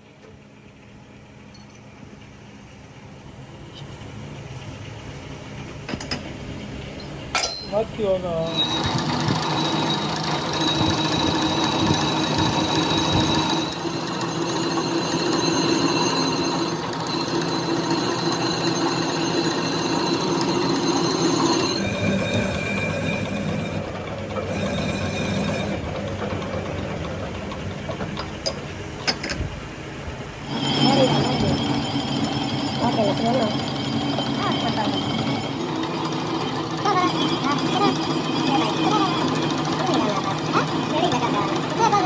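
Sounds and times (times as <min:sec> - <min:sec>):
workshop machinery whining: 0:00.0 - 0:42.0.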